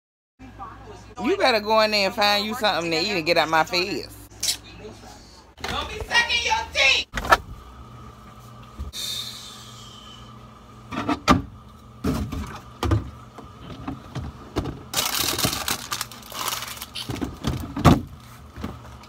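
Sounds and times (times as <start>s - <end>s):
refrigerator hum: 0.4s - 19.0s.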